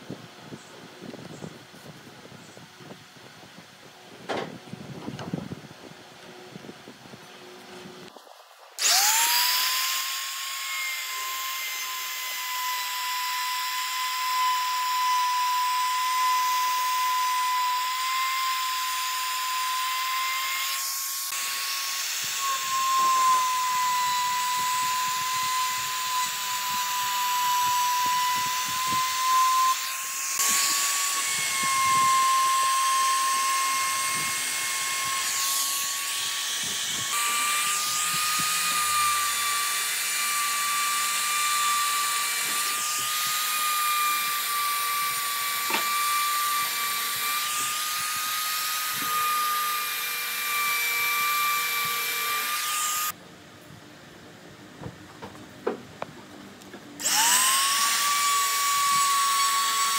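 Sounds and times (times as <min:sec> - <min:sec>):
electric power tool whining: 0:07.3 - 0:53.2, 0:56.6 - 0:59.9.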